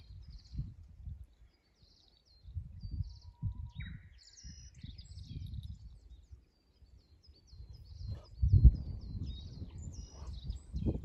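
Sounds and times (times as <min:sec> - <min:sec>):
bush warbler call: 0:00.0 - 0:11.0
small birds singing: 0:00.0 - 0:11.0.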